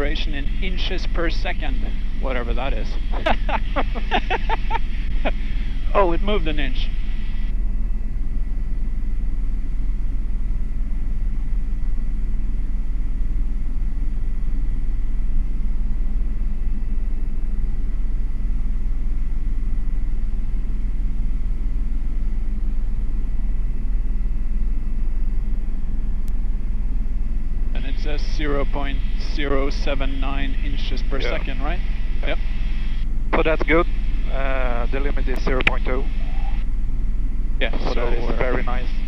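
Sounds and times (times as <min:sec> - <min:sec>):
faint high whine: 0:00.0 - 0:39.0
helicopter cabin rumble: 0:00.0 - 0:39.0.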